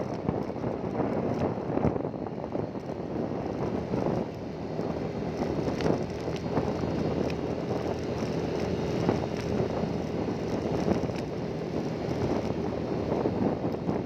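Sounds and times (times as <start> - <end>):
vehicle engine running: 0.0 - 14.0
wind on microphone: 0.0 - 14.0.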